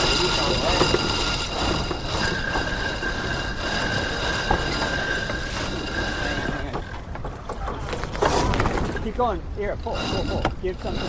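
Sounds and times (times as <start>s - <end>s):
sheet squealing around winch drum: 0.0s - 11.0s
wind noise on microphone: 0.0s - 11.0s.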